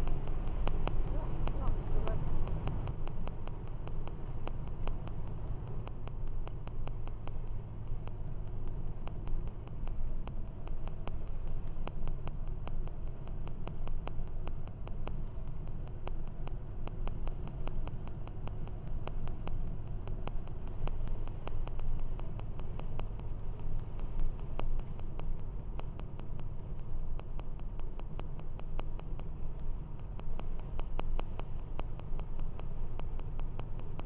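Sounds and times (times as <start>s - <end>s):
car interior rumble: 0.0s - 34.0s.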